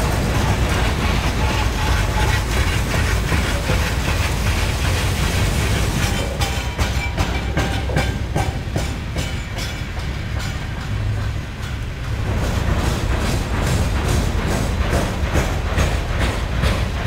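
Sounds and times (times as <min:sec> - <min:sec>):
train low rumble: 0:00.0 - 0:17.0
train wheels clicking over rail joints: 0:00.0 - 0:17.0.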